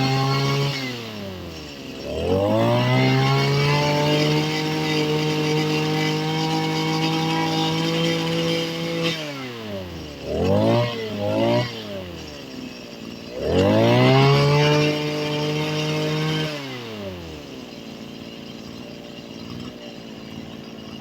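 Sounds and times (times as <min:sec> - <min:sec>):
brush cutter engine revving: 0:00.0 - 0:21.0.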